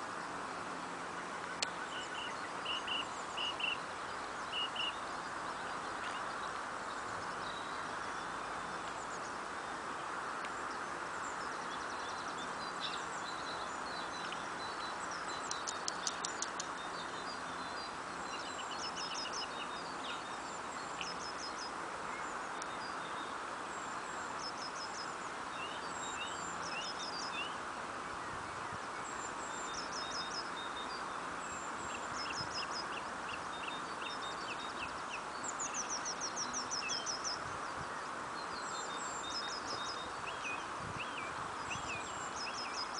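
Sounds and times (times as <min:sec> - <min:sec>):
small birds chirping: 0:00.2 - 0:27.6, 0:28.2 - 0:42.9.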